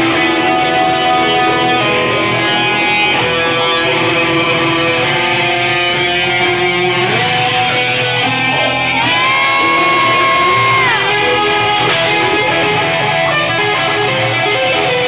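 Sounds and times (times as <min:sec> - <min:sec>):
electric guitar sustained notes: 0:00.0 - 0:15.0.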